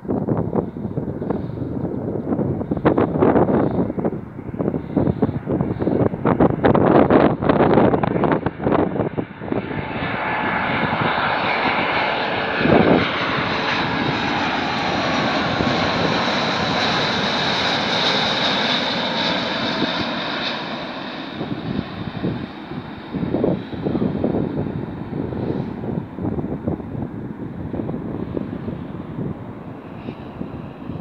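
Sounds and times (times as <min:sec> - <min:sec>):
jet engine roar: 0:00.0 - 0:31.0
wind buffeting microphone: 0:00.0 - 0:31.0.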